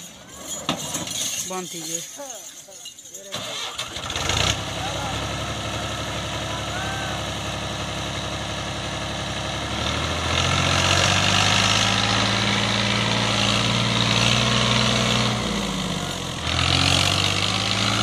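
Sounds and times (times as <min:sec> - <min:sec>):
tractor diesel engine revving: 0:03.3 - 0:18.0.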